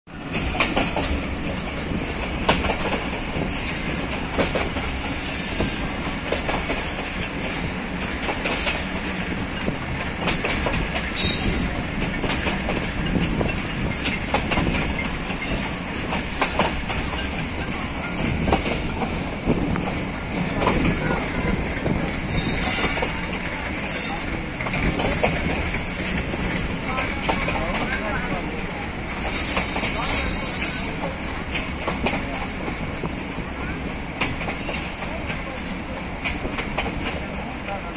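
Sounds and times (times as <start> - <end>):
train wheels rumbling and rattling: 0.1 - 37.9
wheels clickety-clack over joints: 0.1 - 37.9.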